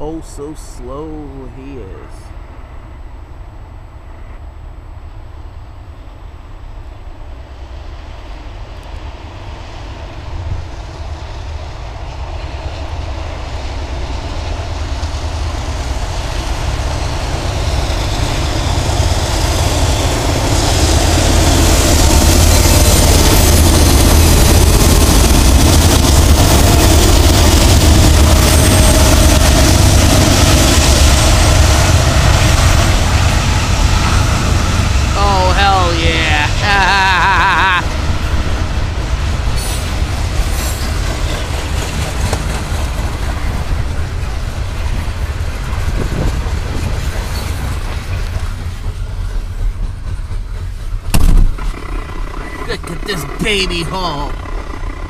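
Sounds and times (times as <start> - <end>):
diesel locomotives hauling train: 0.0 - 55.0.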